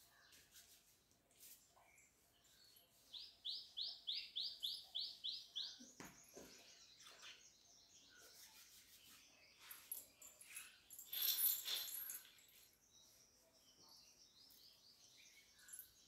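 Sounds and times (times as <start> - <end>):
bird chirping: 1.8 - 16.0.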